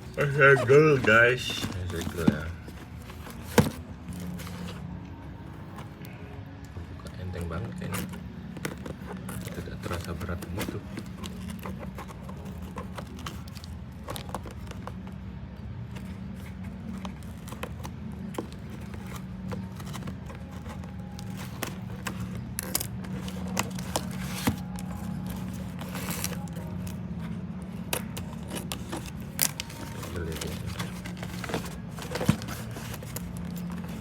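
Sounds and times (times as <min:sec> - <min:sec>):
packaging clicks and scrapes: 0:00.0 - 0:34.0.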